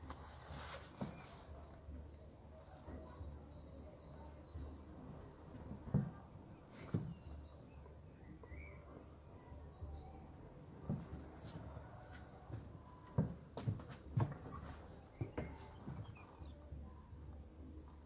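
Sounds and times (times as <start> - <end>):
faint low hum: 1.4 - 18.0.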